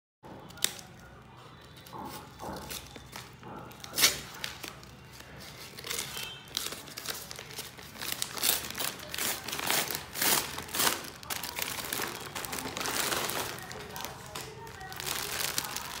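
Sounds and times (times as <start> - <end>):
scissors cutting paper: 0.3 - 16.0
paper crinkling: 0.5 - 16.0.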